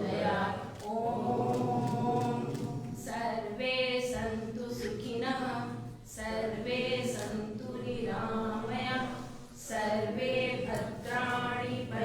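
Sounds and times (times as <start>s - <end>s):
woman chanting melodically: 0.0s - 12.0s.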